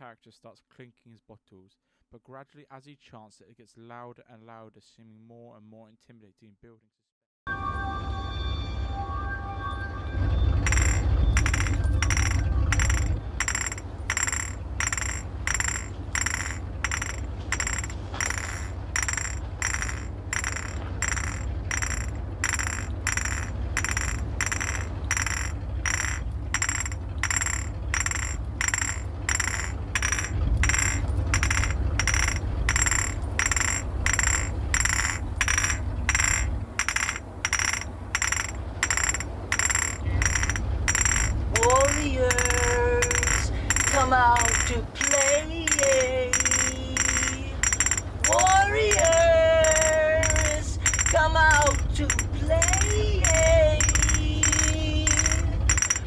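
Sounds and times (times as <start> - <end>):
low steady hum: 7.5 - 56.0
glass bottles clinking: 10.6 - 56.0.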